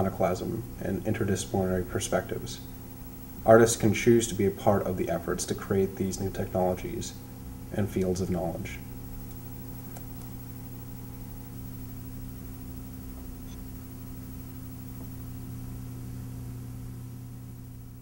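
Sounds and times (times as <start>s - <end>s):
background hiss: 0.0s - 18.0s
low hum: 0.0s - 18.0s.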